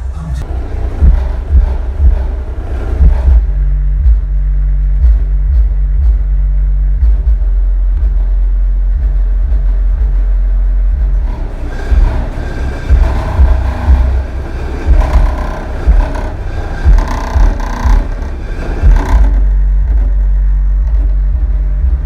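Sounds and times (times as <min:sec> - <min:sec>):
bass-heavy music from subwoofer: 0:00.2 - 0:22.0
steady low bass note: 0:00.4 - 0:22.0.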